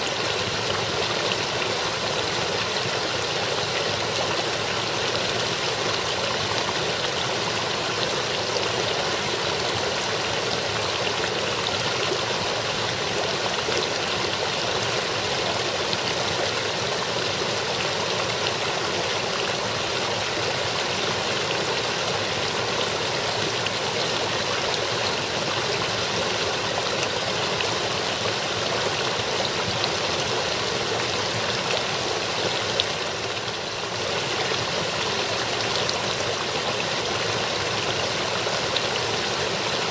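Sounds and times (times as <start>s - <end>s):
brook babbling over icy rocks: 0.0s - 39.9s.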